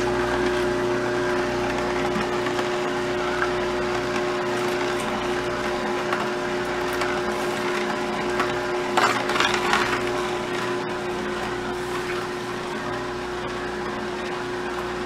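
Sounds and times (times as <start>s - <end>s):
juicer motor hum: 0.0s - 15.0s.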